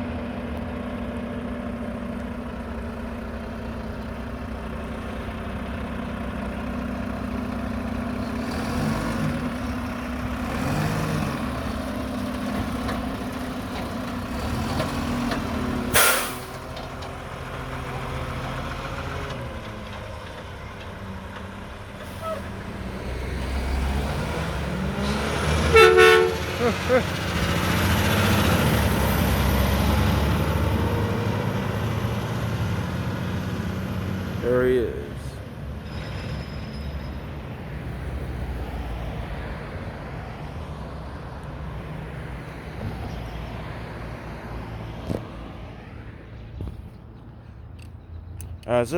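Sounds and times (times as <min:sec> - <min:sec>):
garbage truck diesel engine: 0:00.0 - 0:48.9.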